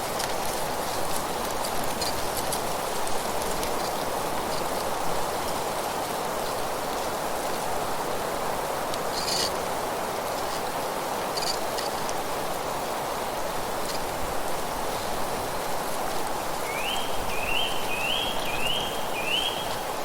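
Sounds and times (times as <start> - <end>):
rustling leaves: 0.0 - 20.0
wind: 0.0 - 20.0.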